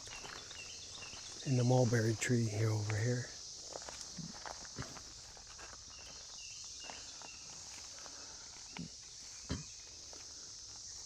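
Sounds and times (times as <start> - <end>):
footsteps through brush: 0.0 - 2.1, 2.7 - 11.0
steady high hiss: 0.9 - 11.0.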